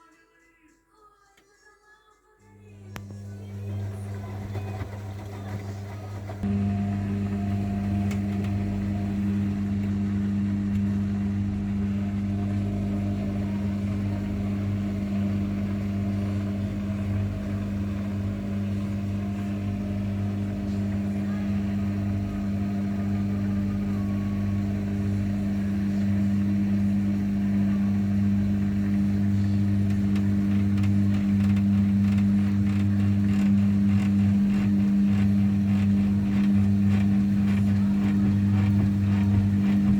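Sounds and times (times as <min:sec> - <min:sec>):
washing machine motor hum: 0:02.6 - 0:39.9.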